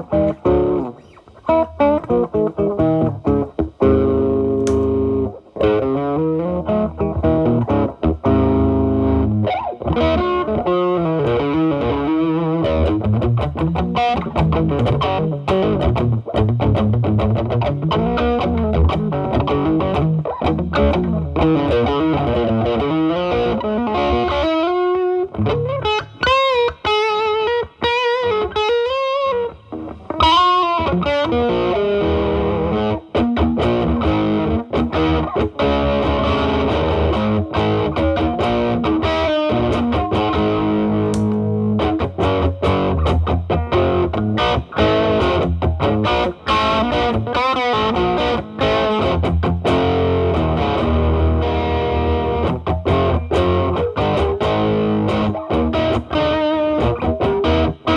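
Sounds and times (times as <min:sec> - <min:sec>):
distorted electric guitar: 0:00.0 - 0:57.9.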